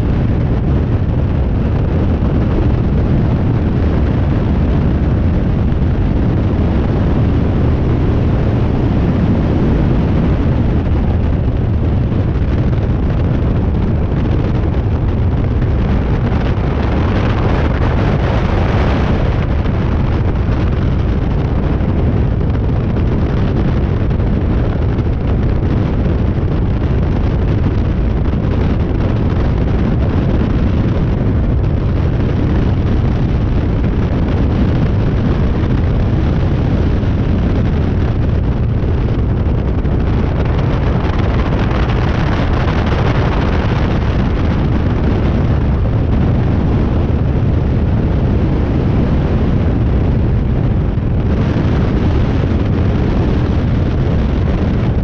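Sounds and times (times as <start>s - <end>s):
aircraft engine and propeller drone: 0.0s - 55.0s
wind rushing on microphone: 0.0s - 55.0s.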